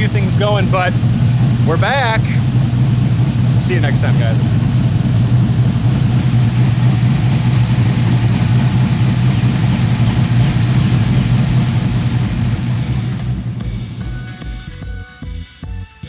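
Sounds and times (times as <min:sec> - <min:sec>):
pickup truck engine running: 0:00.0 - 0:15.8.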